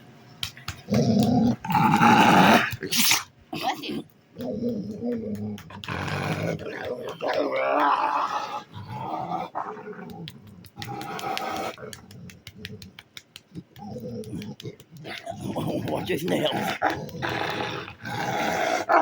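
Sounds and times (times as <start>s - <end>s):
dog growling low and rough: 0.8s - 2.9s, 4.4s - 19.0s.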